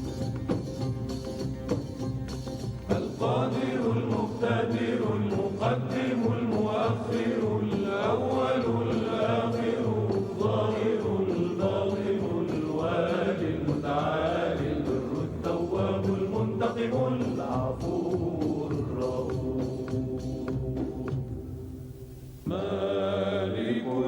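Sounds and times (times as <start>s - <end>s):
instrumental accompaniment: 0.0s - 22.5s
voices chanting: 2.9s - 21.5s, 22.5s - 24.0s.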